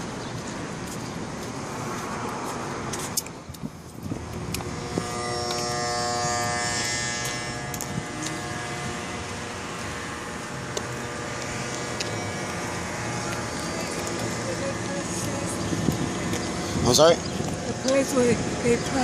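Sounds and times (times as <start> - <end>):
traffic noise: 0.0 - 19.0
steady mechanical buzz: 3.6 - 19.0.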